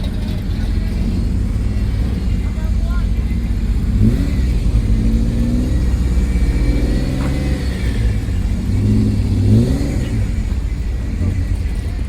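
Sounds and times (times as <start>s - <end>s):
car engines rumbling and revving: 0.0s - 12.0s.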